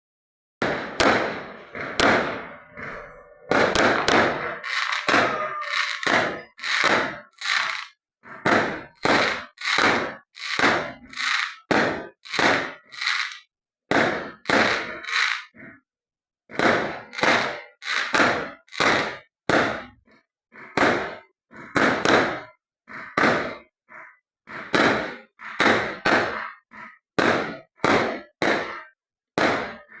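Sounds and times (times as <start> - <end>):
fireworks bangs and cracks: 0.6 - 15.6, 16.5 - 20.0, 20.8 - 22.5, 23.2 - 23.6, 24.7 - 26.5, 27.2 - 29.9.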